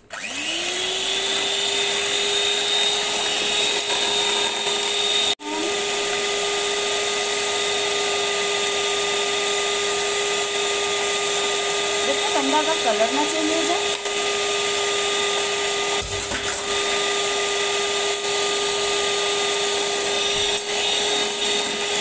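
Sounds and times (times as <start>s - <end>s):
electric hand mixer whisking: 0.0s - 22.0s.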